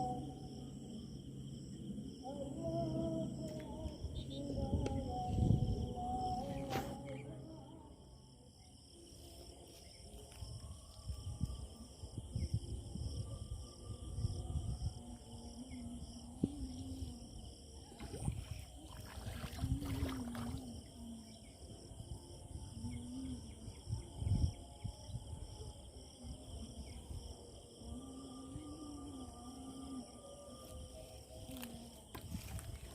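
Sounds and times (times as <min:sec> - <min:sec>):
insects chirring: 0:00.0 - 0:32.9.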